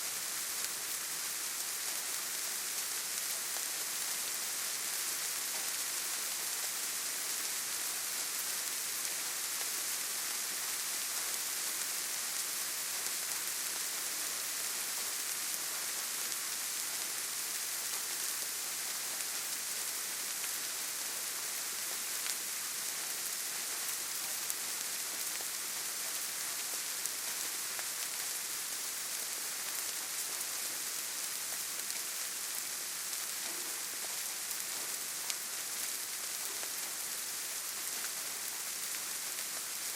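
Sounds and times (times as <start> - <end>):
gentle rain falling on leaves: 0.0 - 39.9.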